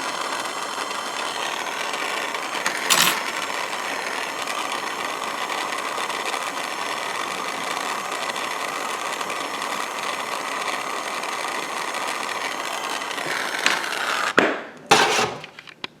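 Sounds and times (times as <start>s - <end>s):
loud flame bursts: 0.0s - 14.4s
torch flame hissing: 0.0s - 15.4s.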